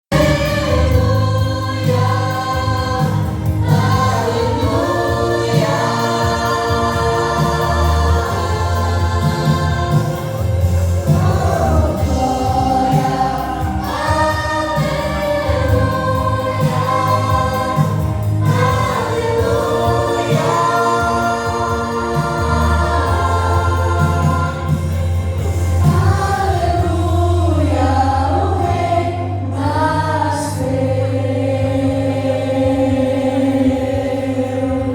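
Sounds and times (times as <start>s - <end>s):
choir singing gospel song: 0.0s - 34.9s
low bass notes: 0.1s - 34.9s.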